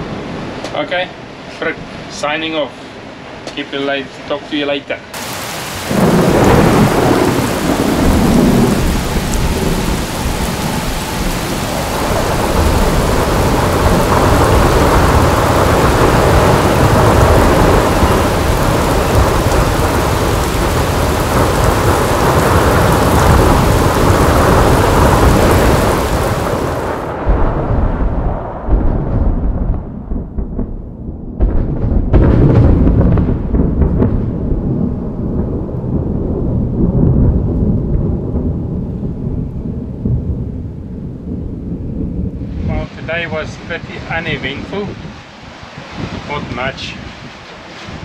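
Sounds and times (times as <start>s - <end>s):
heavy rain downpour: 5.1s - 30.7s, 31.4s - 48.0s
rumbling thunder: 5.2s - 48.0s.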